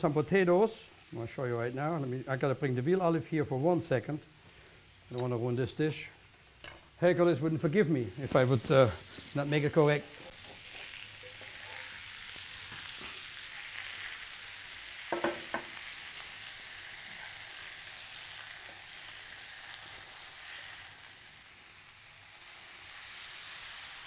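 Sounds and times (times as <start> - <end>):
meat sizzling in a skillet: 0.0 - 2.8, 6.1 - 24.0.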